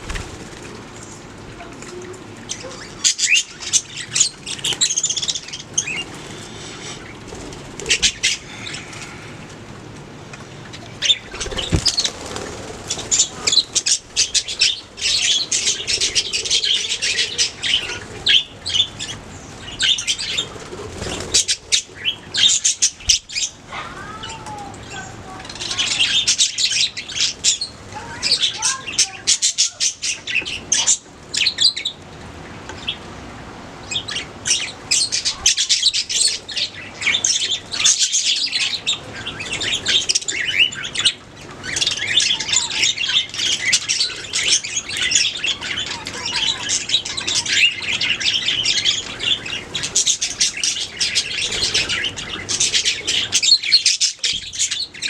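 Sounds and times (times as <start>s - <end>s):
budgerigars chirping and warbling: 2.4s - 9.4s, 10.7s - 32.0s, 33.8s - 55.0s.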